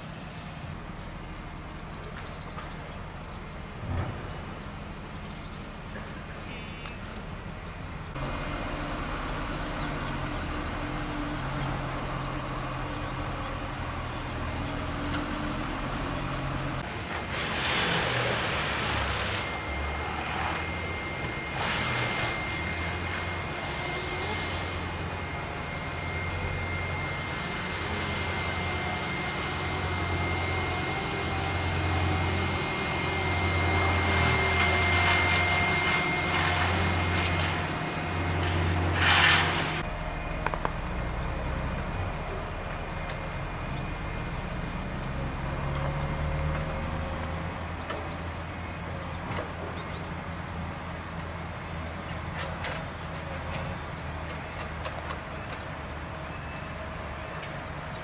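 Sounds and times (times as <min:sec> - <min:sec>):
heavy vehicle engine humming: 0:00.0 - 0:58.0.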